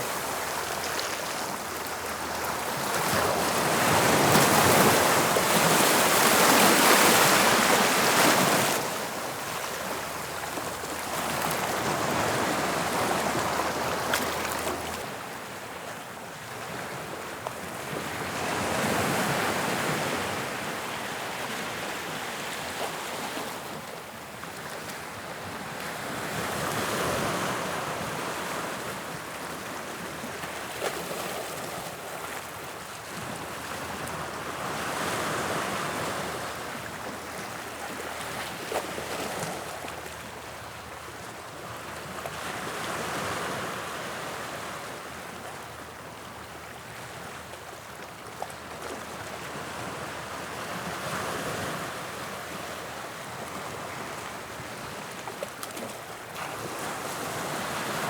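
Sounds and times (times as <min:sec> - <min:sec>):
sea waves breaking on shore: 0:00.0 - 0:15.6, 0:24.5 - 0:58.0.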